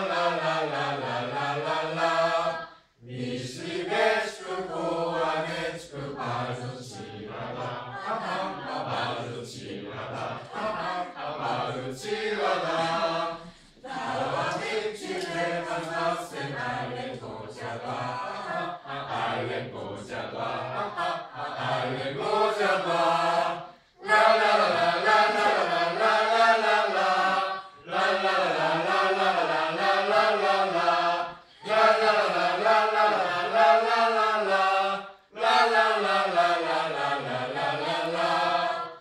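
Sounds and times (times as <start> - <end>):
young voices singing in unison: 0.0 - 39.0.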